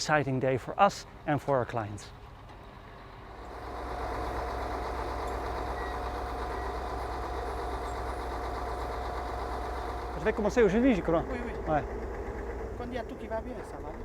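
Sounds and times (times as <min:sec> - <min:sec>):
heavy engine humming: 0:00.0 - 0:14.0.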